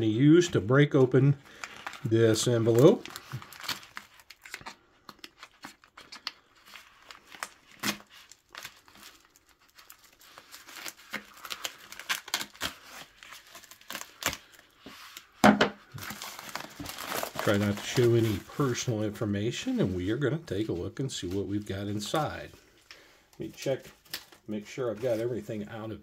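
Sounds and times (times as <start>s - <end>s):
plastic mailer crinkling and tearing: 1.3s - 26.0s.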